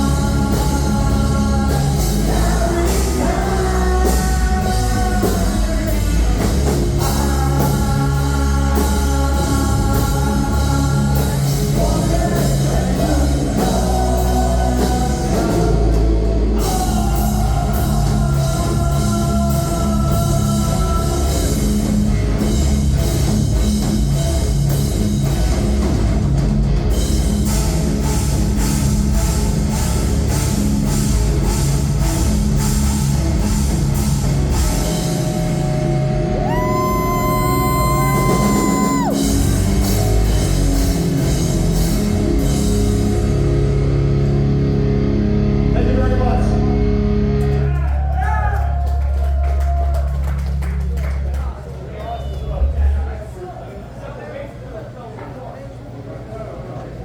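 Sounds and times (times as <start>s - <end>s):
rock band playing: 0.0s - 51.0s.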